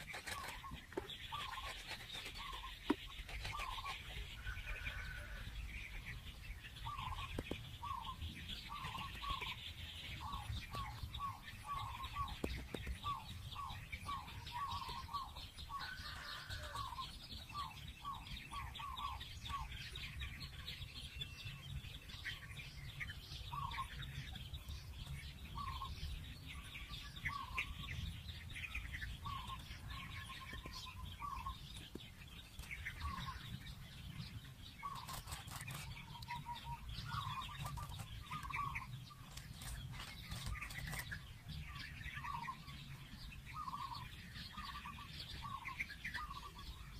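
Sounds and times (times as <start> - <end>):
high bird chirping: 0.0 - 46.9.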